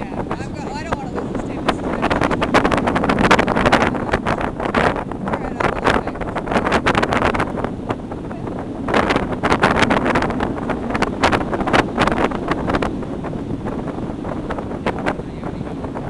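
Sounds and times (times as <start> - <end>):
wind roaring over microphone: 0.0 - 16.0.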